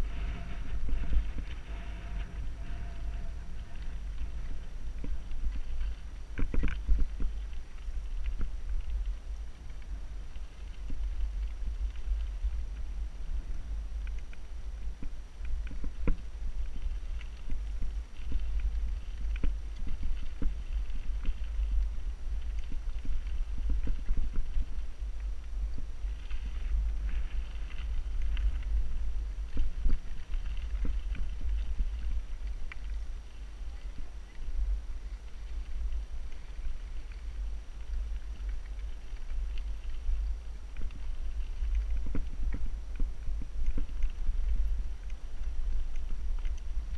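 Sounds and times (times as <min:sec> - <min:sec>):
bike rattling over stones: 0:00.0 - 0:46.9
wind rumble on microphone: 0:00.0 - 0:46.9.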